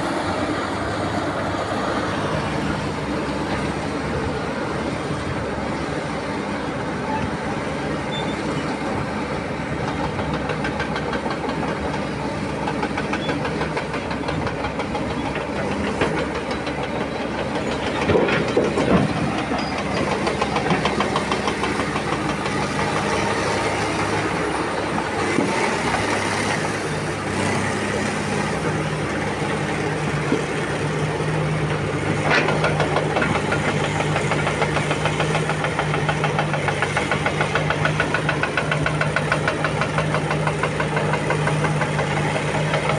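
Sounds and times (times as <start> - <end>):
excavator diesel engine knocking: 0.0 - 42.9.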